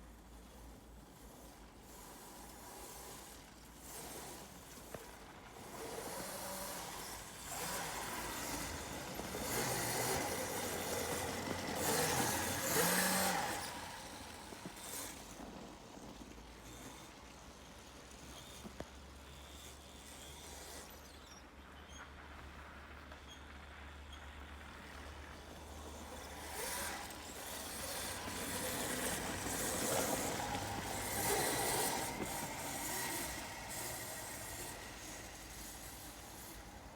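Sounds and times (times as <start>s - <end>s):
electric atv driving on snow: 0.0s - 36.9s.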